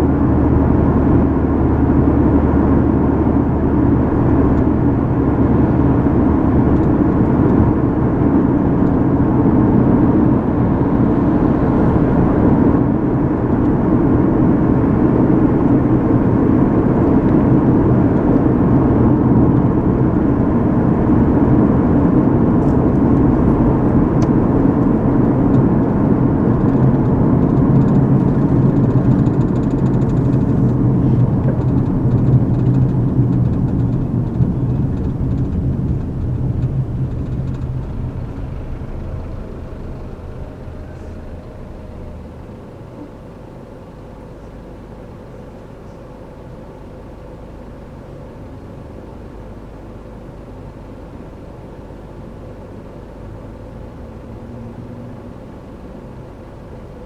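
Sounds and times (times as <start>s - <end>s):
car tyre and engine hum: 0.0s - 57.0s.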